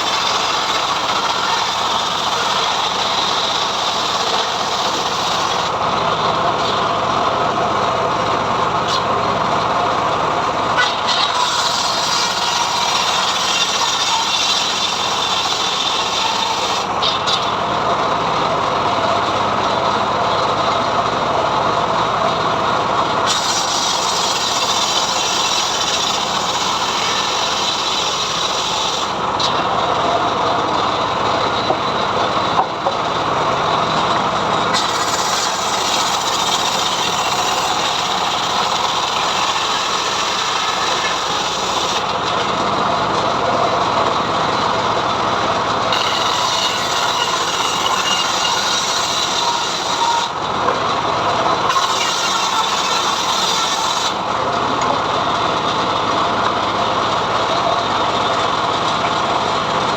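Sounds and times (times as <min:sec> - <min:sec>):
sawmill engine and saw drone: 0:00.0 - 0:59.9.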